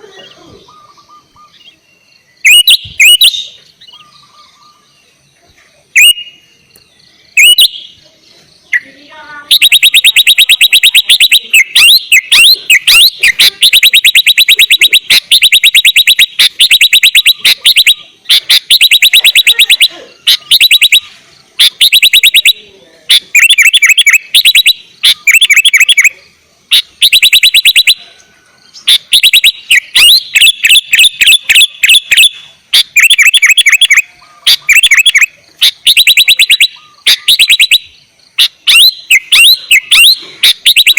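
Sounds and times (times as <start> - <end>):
bird singing with rattling trills: 0.0 - 40.9.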